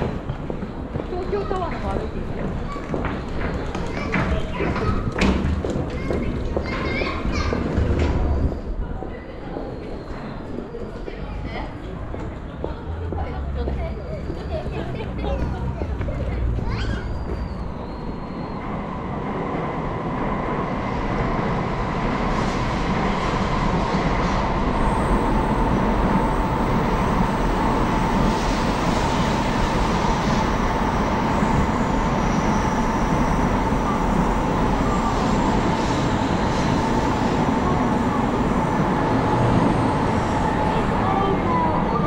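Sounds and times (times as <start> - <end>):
train rumble on tracks: 0.0 - 42.0.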